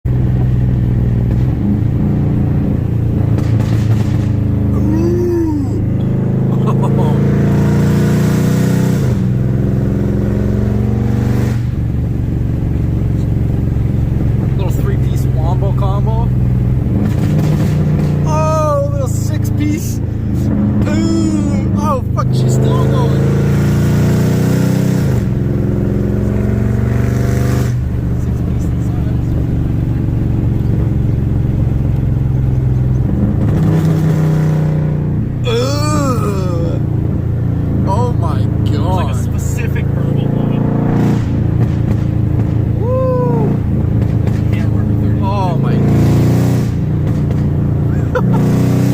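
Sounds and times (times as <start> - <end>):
car exhaust revving: 0.1 - 48.9.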